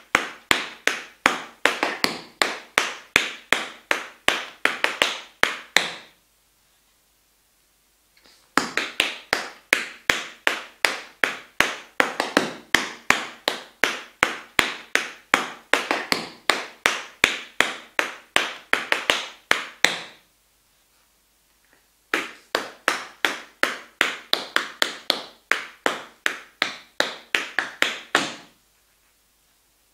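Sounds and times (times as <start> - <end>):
tap shoes clicking on wooden floor: 0.0 - 6.1, 8.6 - 20.2, 22.2 - 28.5.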